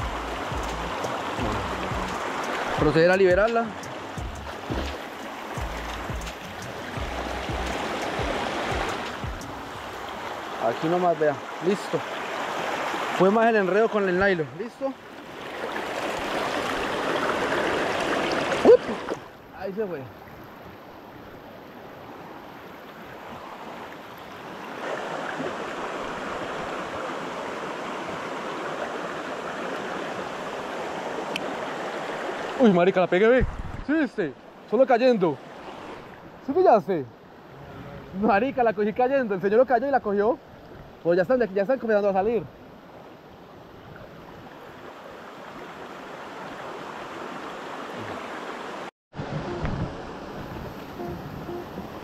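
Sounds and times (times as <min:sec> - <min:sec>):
creek water rushing over stones: 0:00.0 - 0:37.5, 0:38.2 - 0:52.0.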